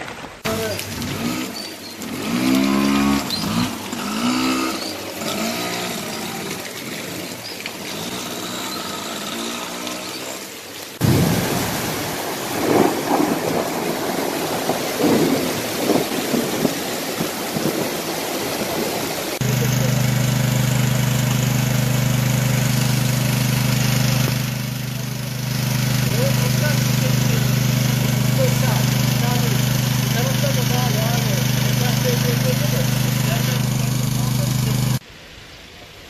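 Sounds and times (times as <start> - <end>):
floodwater rushing: 0.0 - 36.0
rain: 0.0 - 36.0.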